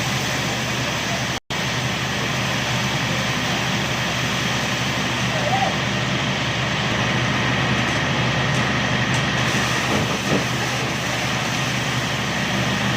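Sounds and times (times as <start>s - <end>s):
drilling rig mechanical drone: 0.0s - 12.9s.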